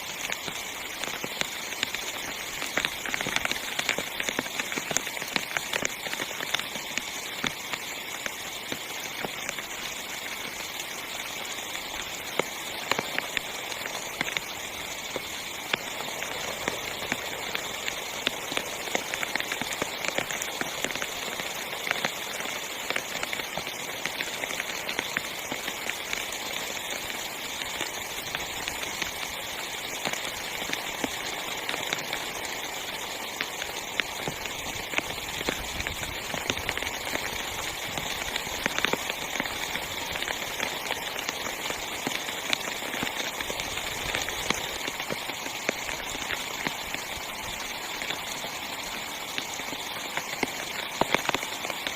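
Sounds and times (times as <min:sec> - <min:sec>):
rain hissing on a tent: 0:00.0 - 0:51.9.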